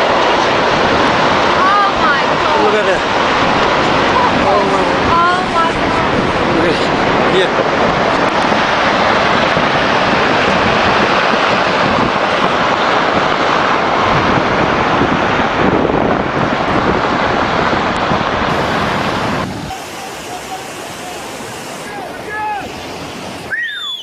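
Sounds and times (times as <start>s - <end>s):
surging water rushing: 0.0s - 24.0s.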